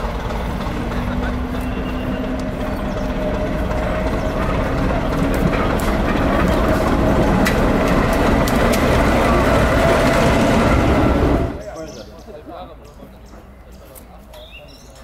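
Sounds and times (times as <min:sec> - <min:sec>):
diesel train engine rumble: 0:00.0 - 0:15.0.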